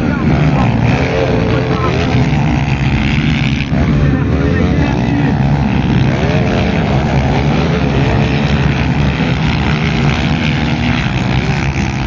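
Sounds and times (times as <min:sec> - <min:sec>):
motorbike engines revving: 0:00.0 - 0:12.0
steady low rumble: 0:00.0 - 0:12.0.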